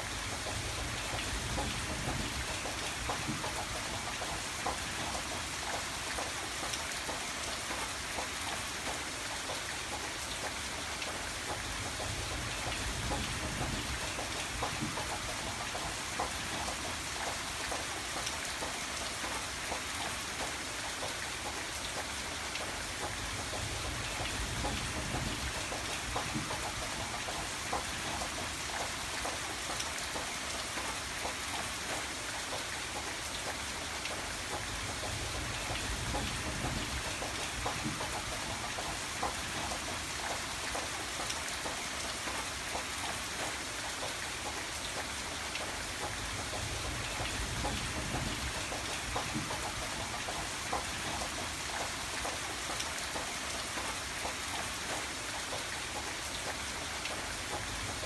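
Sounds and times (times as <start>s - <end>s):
rain drops tapping on a surface: 0.0s - 58.0s.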